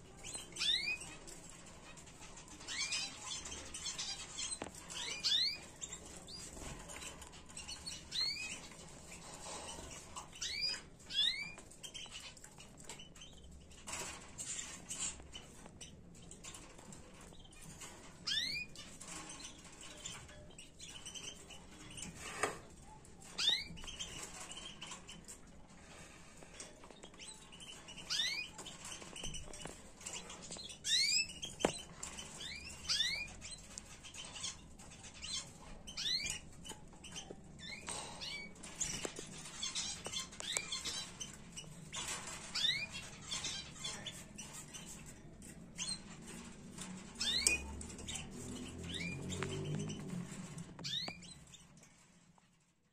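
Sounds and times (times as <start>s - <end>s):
birds fluttering in a cage: 0.0s - 52.9s
canaries chirping: 0.0s - 52.9s.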